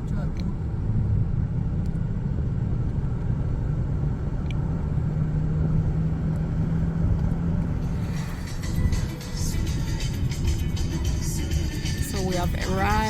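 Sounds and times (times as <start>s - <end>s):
car engine drone: 0.0s - 13.0s
low road rumble: 0.0s - 13.0s.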